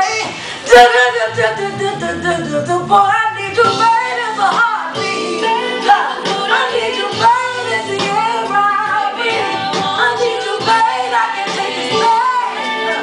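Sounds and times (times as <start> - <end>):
steady held chords: 0.1 - 13.0.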